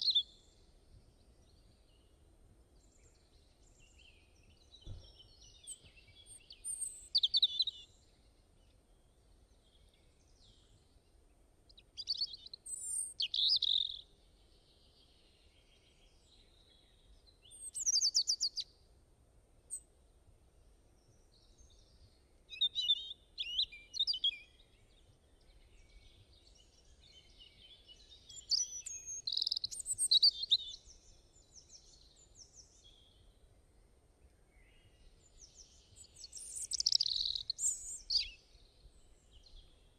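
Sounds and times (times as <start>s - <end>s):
faint low background noise: 0.0s - 39.9s
songbirds chirping: 0.0s - 39.9s.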